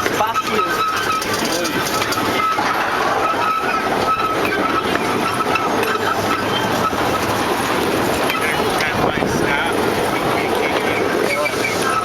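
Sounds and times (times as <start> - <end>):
wheels clattering on rails: 0.0 - 12.0.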